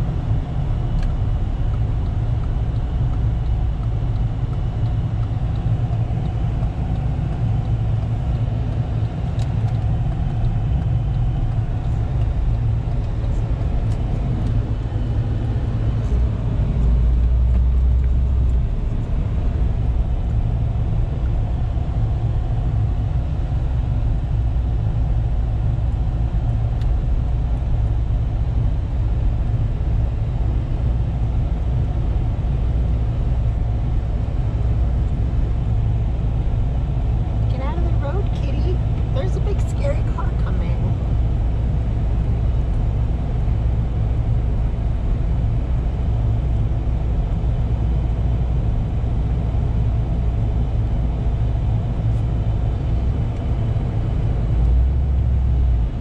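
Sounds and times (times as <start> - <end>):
car exhaust rumble from cabin: 0.0 - 56.0.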